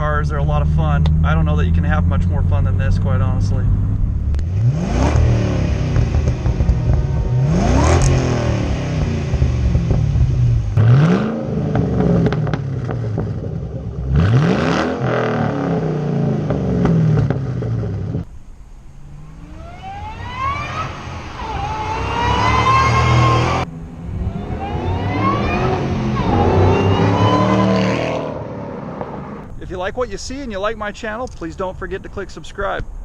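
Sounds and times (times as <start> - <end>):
car engine accelerating hard: 0.0 - 29.6
rising whine: 0.3 - 17.2, 17.8 - 29.6.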